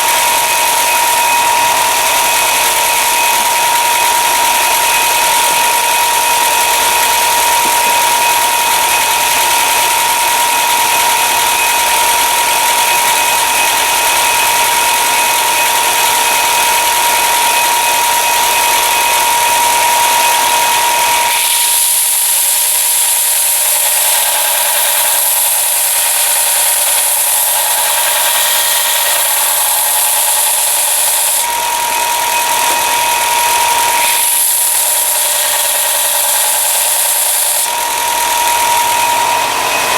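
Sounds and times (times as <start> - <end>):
belt sander grinding steel blade: 0.0 - 39.9.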